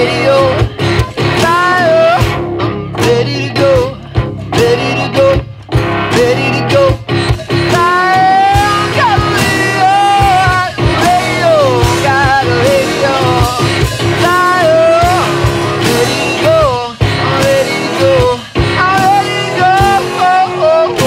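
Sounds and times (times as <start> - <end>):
rock song with sung vocal: 0.0 - 21.0.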